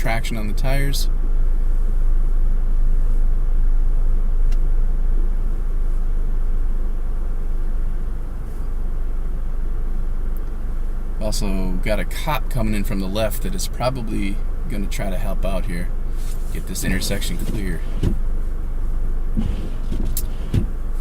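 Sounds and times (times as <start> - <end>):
car engine rumble inside cabin: 0.0 - 21.0.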